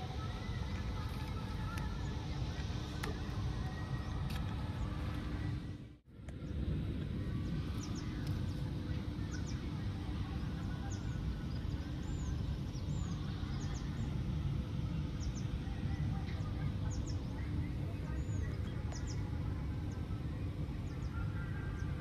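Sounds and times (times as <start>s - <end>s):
birds chirping: 0.0s - 22.0s
low outdoor rumble: 0.0s - 22.0s.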